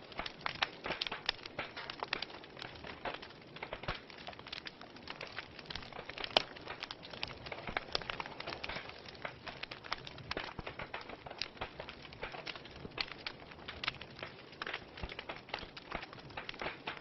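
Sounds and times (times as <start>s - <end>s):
soft hiss of fire: 0.0s - 17.0s
wood fire crackling and popping: 0.0s - 17.0s.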